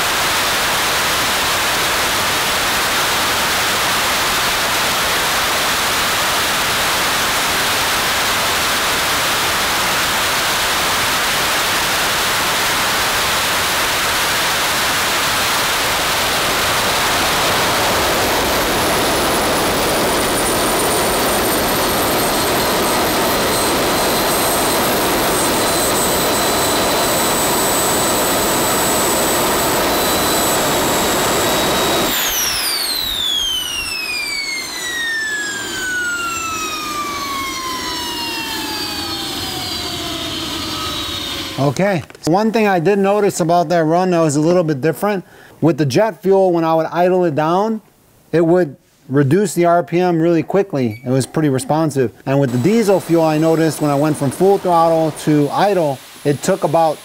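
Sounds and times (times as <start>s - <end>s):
turbojet engine roaring: 0.0s - 42.2s, 52.4s - 57.0s
turbine whine spooling down: 0.0s - 43.5s, 50.8s - 57.0s.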